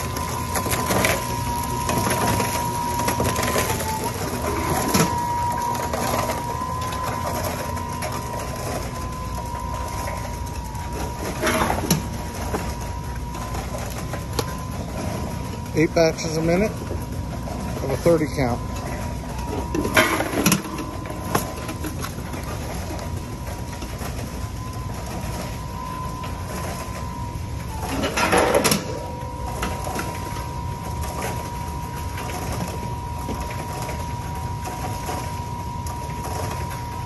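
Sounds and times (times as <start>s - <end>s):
counting machine humming and whining: 0.0s - 37.0s.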